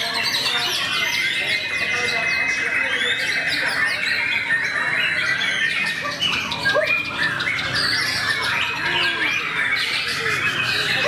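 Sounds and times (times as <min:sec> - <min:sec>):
songbirds whistling and chirping: 0:00.0 - 0:11.0.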